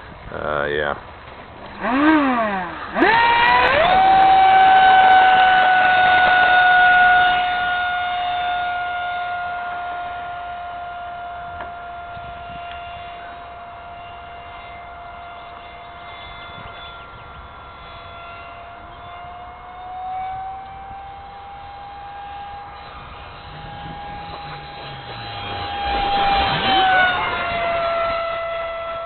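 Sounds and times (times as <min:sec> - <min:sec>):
electric ducted fan whining: 0:00.0 - 0:29.0.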